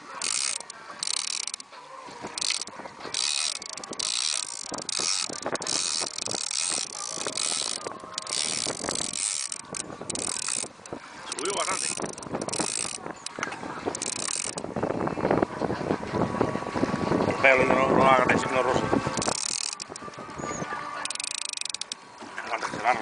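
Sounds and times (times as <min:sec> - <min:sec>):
fishing reel gears whirring and clicking: 0:00.0 - 0:14.7, 0:17.5 - 0:22.1.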